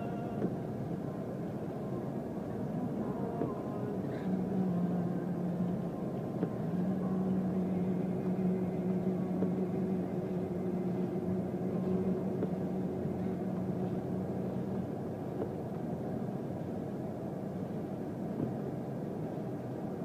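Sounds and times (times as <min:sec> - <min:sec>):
low hum: 0:00.0 - 0:20.0
surf roaring against sea wall: 0:00.0 - 0:20.0.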